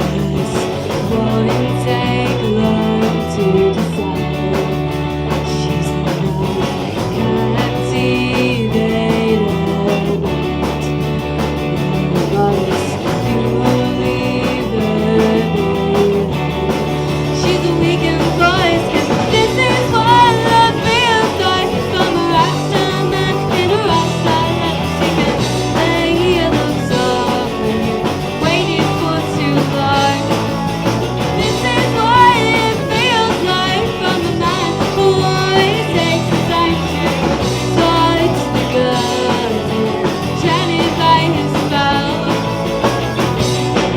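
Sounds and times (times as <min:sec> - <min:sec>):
woman singing: 0:00.0 - 0:11.0, 0:11.8 - 0:43.6
live rock band playing: 0:00.0 - 0:43.9.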